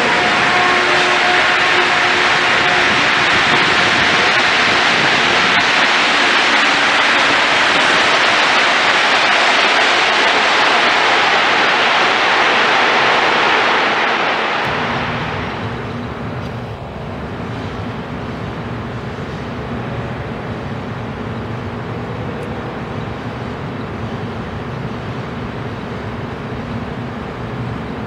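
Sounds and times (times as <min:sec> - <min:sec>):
train running past platform: 0:00.0 - 0:28.0.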